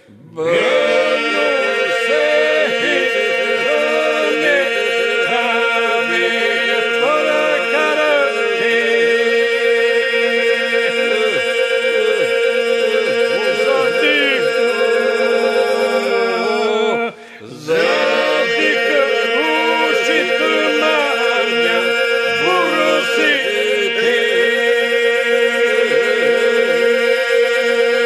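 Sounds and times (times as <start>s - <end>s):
group singing a steady drone: 0.0s - 28.0s
lead voices singing ornamented lines: 0.0s - 28.0s.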